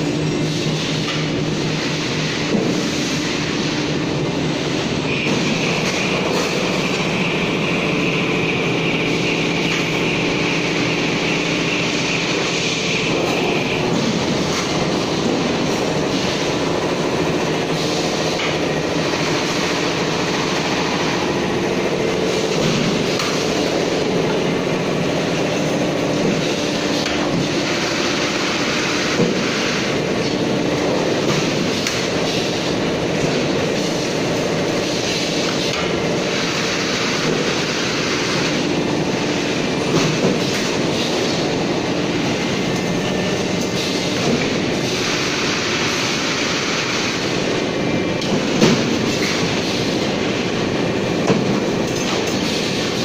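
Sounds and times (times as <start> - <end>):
high steady whine: 0.0 - 53.0
machine hum: 0.0 - 53.0.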